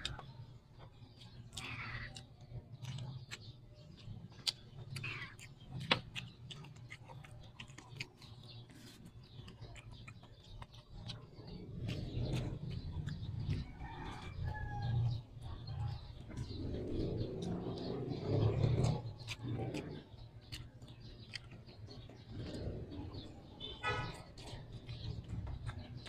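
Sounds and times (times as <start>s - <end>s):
chewing and lip smacks: 0.0s - 26.0s.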